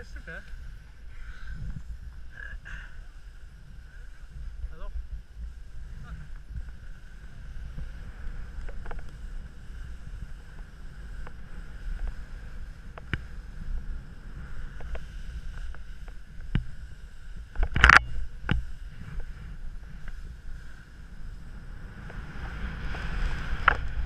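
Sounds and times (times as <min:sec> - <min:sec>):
skis hissing over snow: 0:00.0 - 0:17.5, 0:18.2 - 0:24.0
wind rumbling on microphone: 0:00.0 - 0:24.0.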